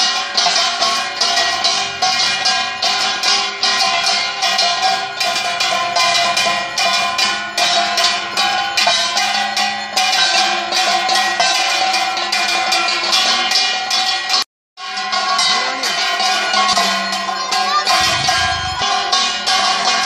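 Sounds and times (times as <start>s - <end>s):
metal bells struck in rhythm: 0.0s - 20.0s.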